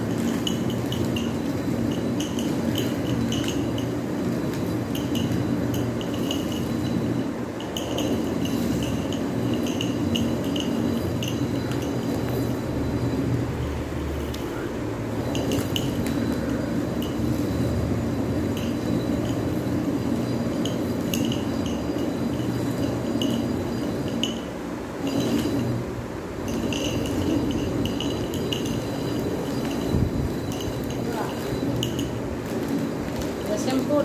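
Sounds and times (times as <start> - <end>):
small clinks: 0.0 - 13.4, 14.2 - 34.0.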